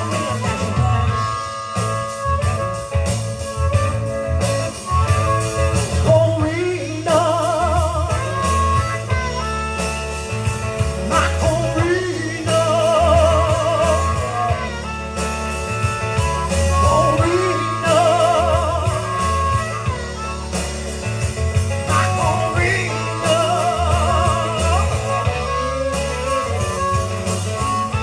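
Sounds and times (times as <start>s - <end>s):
blues band playing live: 0.0s - 28.0s
wavering lead guitar notes: 0.0s - 28.0s.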